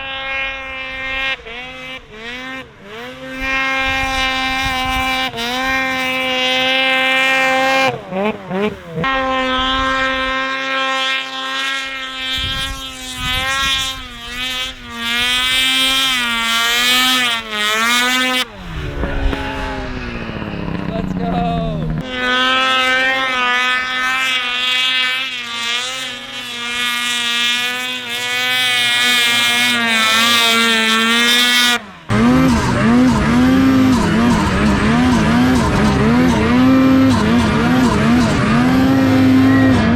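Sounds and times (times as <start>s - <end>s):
snowmobile engine high revs: 0.0s - 39.9s.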